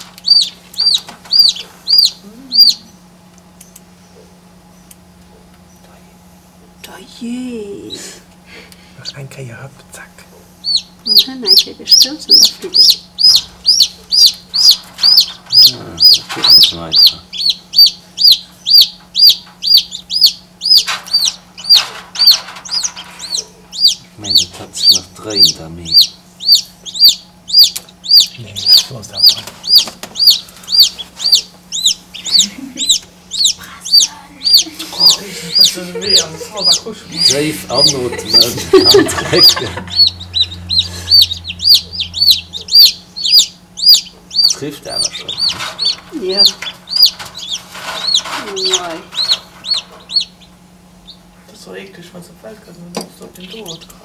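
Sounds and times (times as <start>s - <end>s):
chicks peeping: 0.0s - 6.0s, 10.2s - 54.0s
faint low hum: 0.0s - 54.0s.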